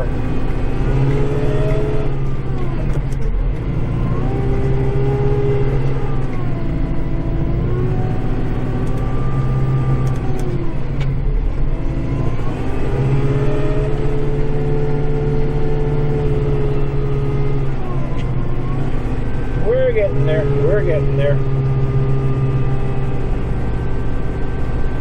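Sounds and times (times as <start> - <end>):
snow blower whine: 0.0 - 25.0
tractor diesel engine under load: 0.0 - 25.0.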